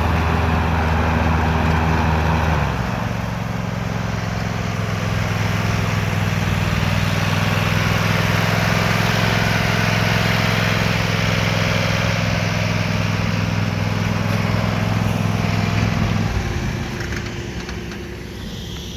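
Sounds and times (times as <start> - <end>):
mower engine running: 0.0 - 18.9.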